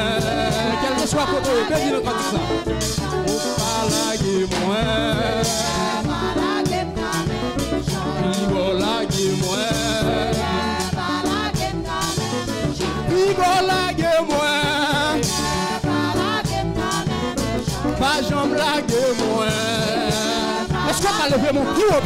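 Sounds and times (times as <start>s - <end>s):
instrumental accompaniment: 0.0s - 22.0s
singers on microphones: 0.0s - 22.0s
steady drum beat: 0.0s - 22.0s.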